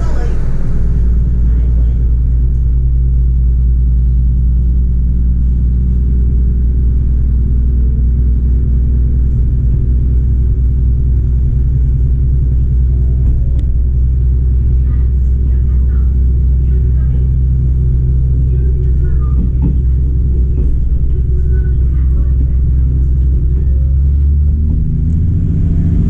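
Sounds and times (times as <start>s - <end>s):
diesel railcar engine running: 0.0s - 26.0s.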